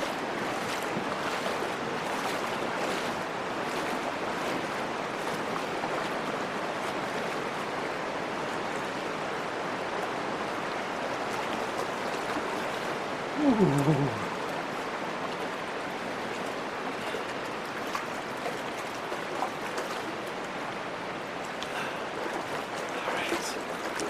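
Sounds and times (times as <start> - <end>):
legs wading through water: 0.0 - 24.0
river rushing: 0.0 - 24.0.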